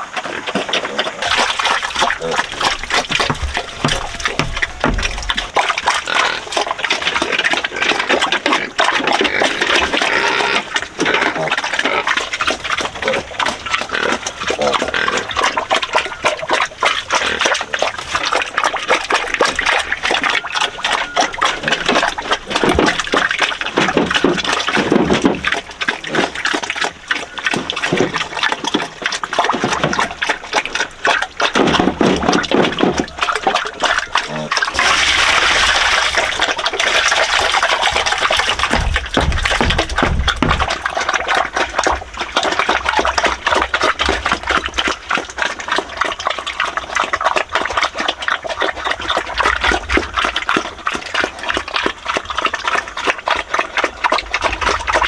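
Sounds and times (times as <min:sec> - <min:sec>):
pigs grunting and squealing: 0:00.0 - 0:55.0
water running: 0:00.0 - 0:55.0.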